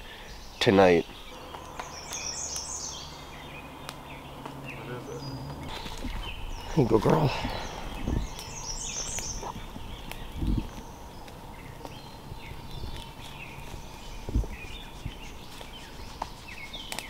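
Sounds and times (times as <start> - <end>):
small birds chirping: 0.0 - 17.0
dull low thumps: 1.1 - 15.2.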